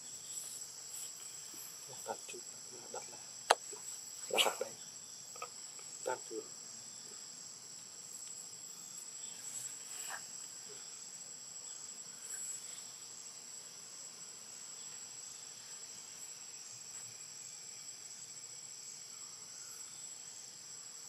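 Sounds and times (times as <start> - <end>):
insect chorus shrill drone: 0.0 - 21.0.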